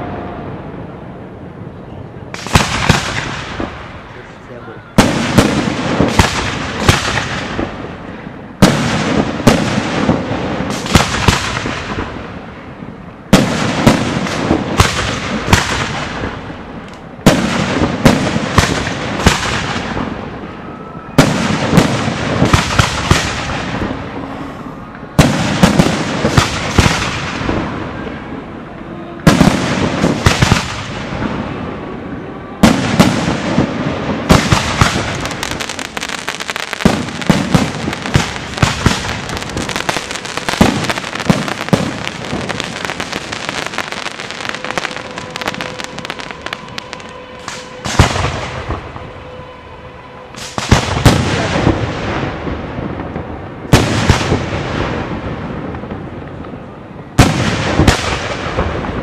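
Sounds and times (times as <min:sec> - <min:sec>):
firework crackling: 0:02.2 - 0:59.0.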